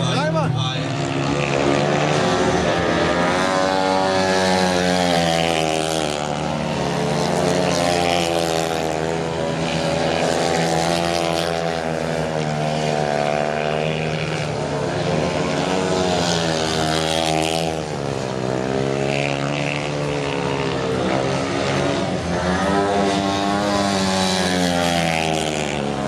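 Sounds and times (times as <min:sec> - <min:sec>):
motorcycle engine running hard: 0:00.0 - 0:26.0.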